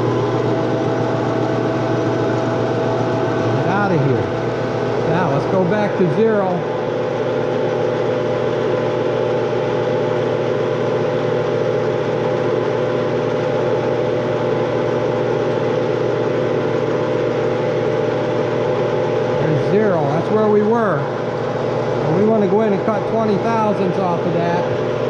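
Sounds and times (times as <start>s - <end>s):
metal lathe running: 0.0s - 25.0s.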